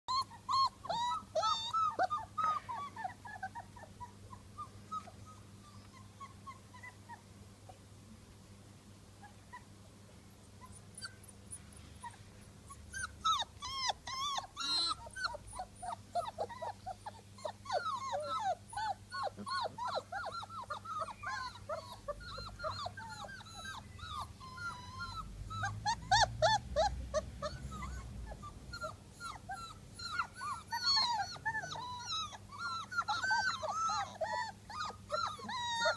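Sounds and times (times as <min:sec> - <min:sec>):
puppies whining and yipping: 0:00.1 - 0:07.3, 0:09.2 - 0:09.7, 0:10.6 - 0:35.9.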